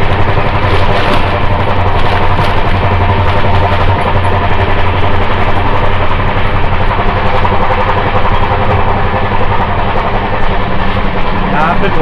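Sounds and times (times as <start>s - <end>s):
train coach rattling: 0.0s - 12.0s
train wheels rumbling: 0.0s - 12.0s.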